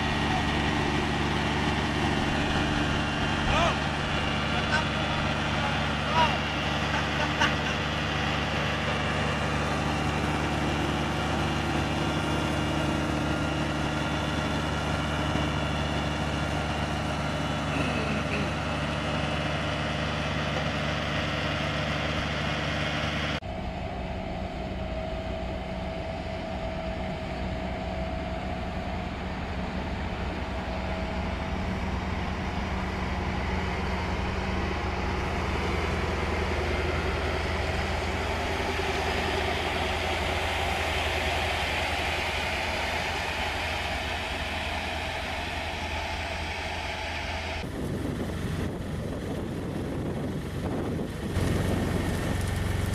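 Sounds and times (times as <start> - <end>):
heavy truck engine running: 0.0 - 52.9.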